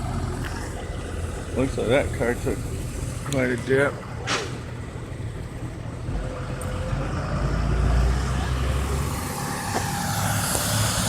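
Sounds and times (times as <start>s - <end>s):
vehicle engine rumble passing: 0.0s - 11.0s.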